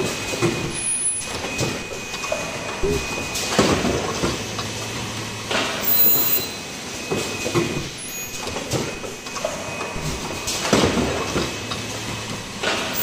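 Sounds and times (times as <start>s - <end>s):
steady machine noise: 0.0s - 13.0s.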